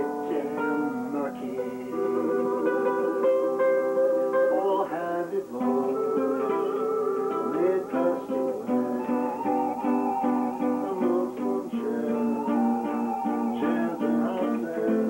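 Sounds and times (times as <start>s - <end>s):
plucked string instruments: 0.0s - 15.0s.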